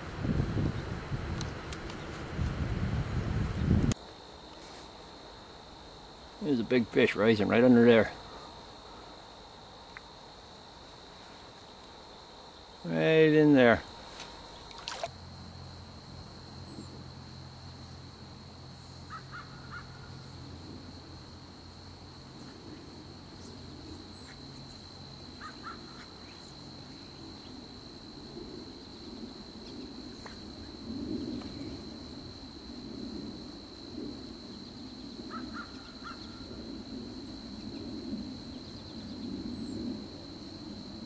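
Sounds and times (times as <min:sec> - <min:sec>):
faint high whine: 0:00.0 - 0:41.0.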